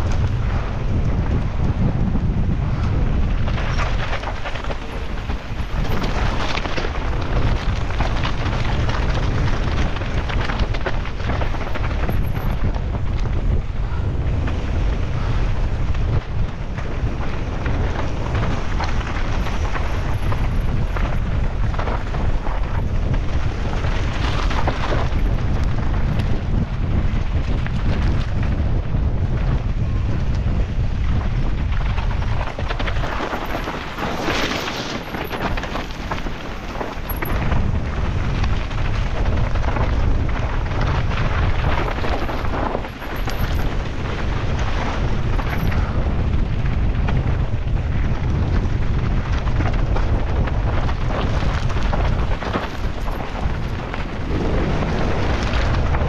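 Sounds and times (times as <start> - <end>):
bike clattering and rattling: 0.0 - 56.0
tyres rumbling on rough ground: 0.0 - 56.0
wind buffeting microphone: 0.0 - 56.0.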